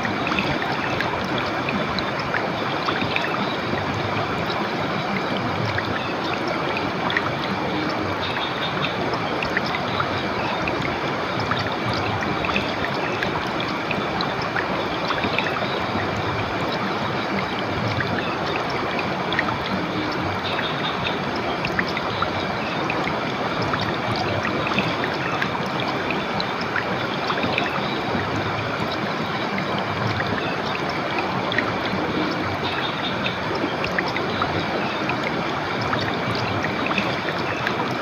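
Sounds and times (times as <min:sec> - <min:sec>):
river water flowing: 0:00.0 - 0:38.0
water splashing and trickling: 0:00.0 - 0:38.0.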